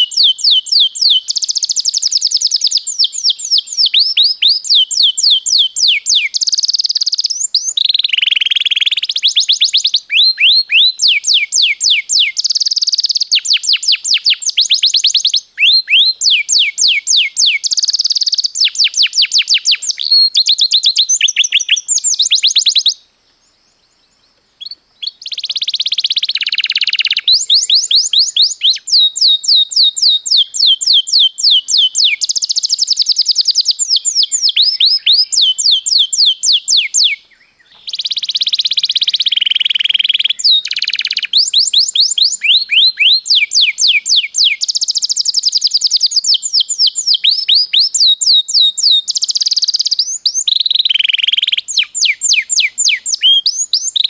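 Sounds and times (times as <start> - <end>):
canary singing rolling trills: 0.0 - 23.0, 23.8 - 54.0.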